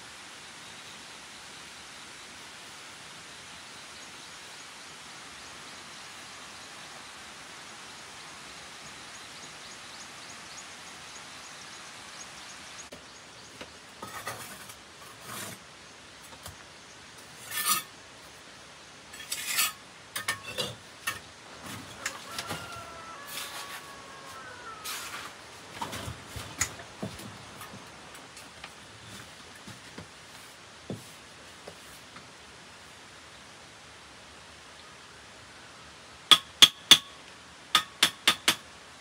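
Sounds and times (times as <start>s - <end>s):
steady hiss: 0.0s - 39.0s.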